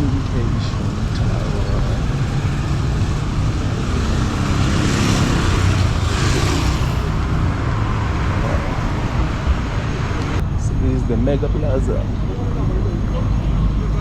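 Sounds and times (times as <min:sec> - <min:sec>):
vehicle engines rumbling: 0:00.0 - 0:14.0
vehicles passing: 0:00.0 - 0:14.0.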